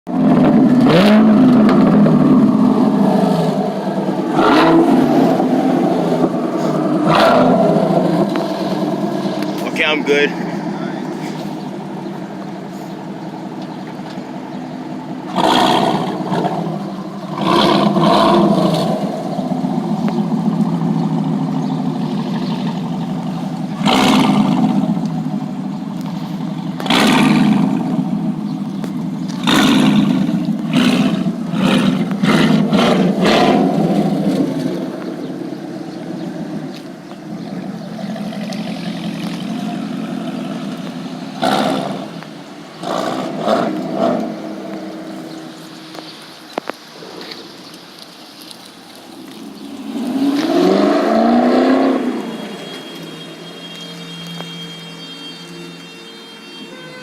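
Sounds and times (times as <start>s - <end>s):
engine throttle blips: 0.1s - 47.4s, 49.3s - 57.0s
car engine idling: 0.1s - 57.0s.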